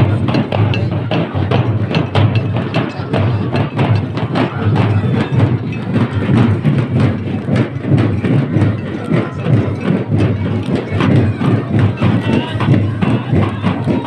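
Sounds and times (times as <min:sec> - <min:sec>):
drums beaten with sticks: 0:00.0 - 0:14.0.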